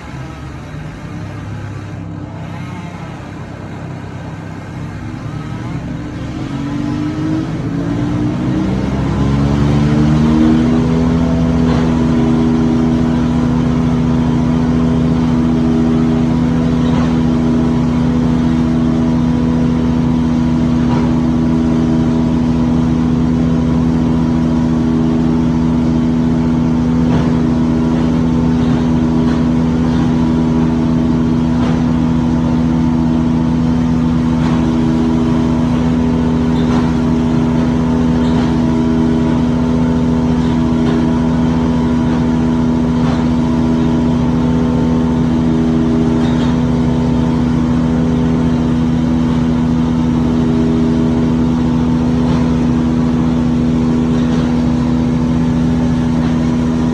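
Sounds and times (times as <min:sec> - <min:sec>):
engine revving: 0:00.0 - 0:56.9.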